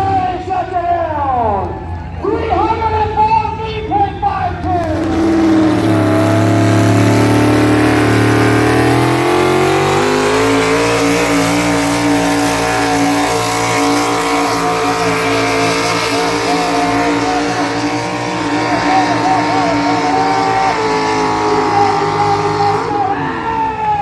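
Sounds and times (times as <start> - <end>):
engine running at high revs: 4.6 - 24.0.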